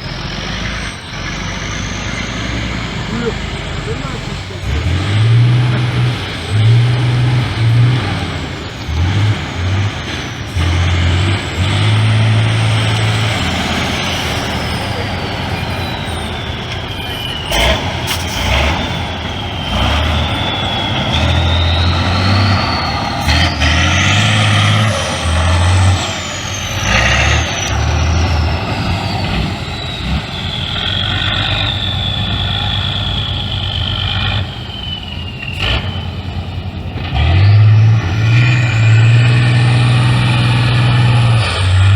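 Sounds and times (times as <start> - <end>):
high whine gliding: 0.0 - 41.9
truck diesel engine under load: 0.0 - 41.9.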